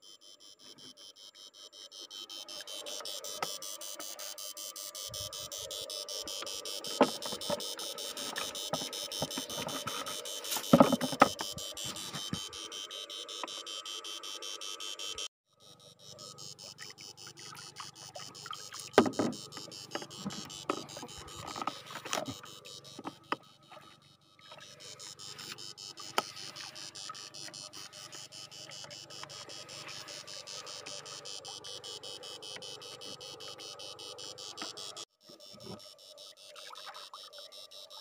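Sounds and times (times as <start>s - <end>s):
pulsing electronic buzz: 0.0s - 36.5s.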